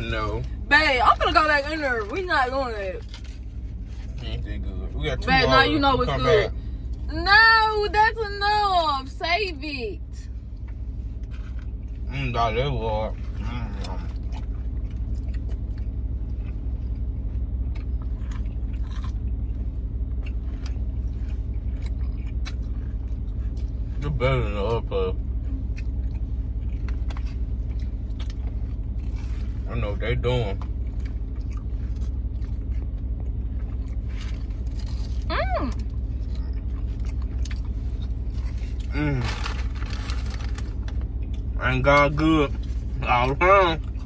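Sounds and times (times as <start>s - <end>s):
car low rumble: 0.0s - 44.0s
chewing and crunching food: 3.0s - 4.5s, 10.3s - 44.0s.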